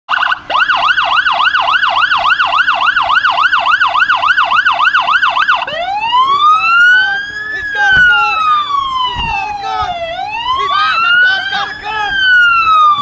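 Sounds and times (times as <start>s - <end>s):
police siren yelping: 0.1s - 13.0s.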